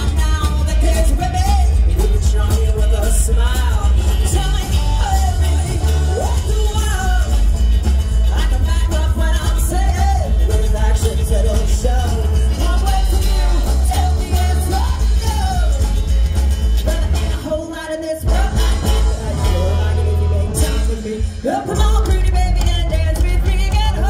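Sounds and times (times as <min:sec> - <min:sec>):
woman singing: 0:00.0 - 0:16.2, 0:16.8 - 0:24.0
heavy bass line: 0:00.0 - 0:24.0
rockabilly band playing: 0:00.0 - 0:24.0.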